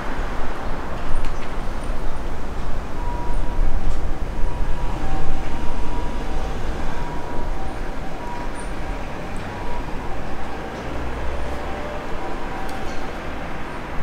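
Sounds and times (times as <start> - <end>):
diesel railcar rumbling on tracks: 0.0 - 14.0.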